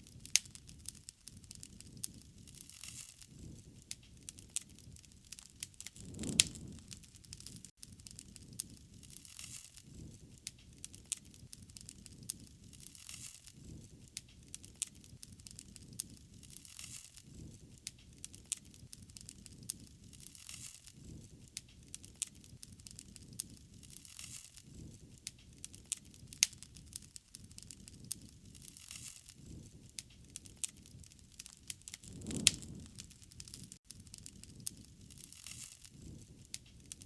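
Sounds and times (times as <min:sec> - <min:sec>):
wood fire pops and snaps: 0:00.0 - 0:37.0
low rushing of flames: 0:00.3 - 0:24.2, 0:27.6 - 0:37.0.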